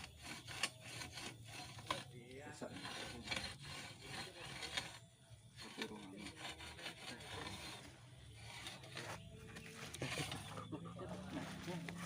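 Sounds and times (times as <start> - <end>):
drilling pipe scraping soil: 0.0 - 12.0.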